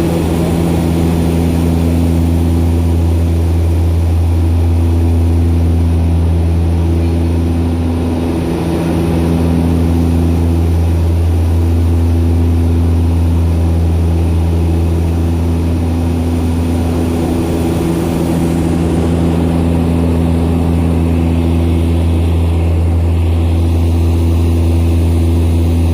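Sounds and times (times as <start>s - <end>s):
propeller aircraft engine running: 0.0s - 25.9s.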